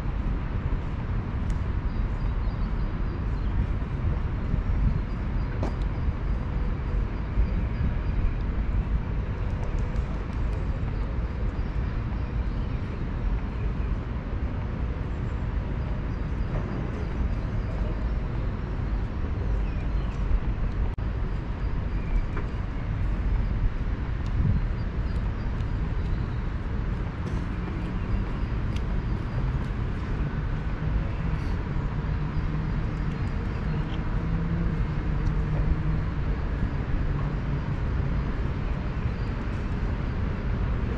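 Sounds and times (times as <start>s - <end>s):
city traffic rumble: 0.0s - 40.9s.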